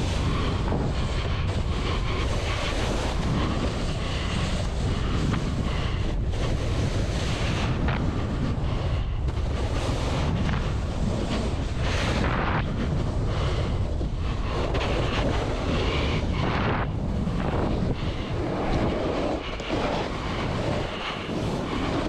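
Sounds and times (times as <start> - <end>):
snowboard hissing on snow: 0.0 - 22.0
wind buffeting microphone: 0.0 - 22.0.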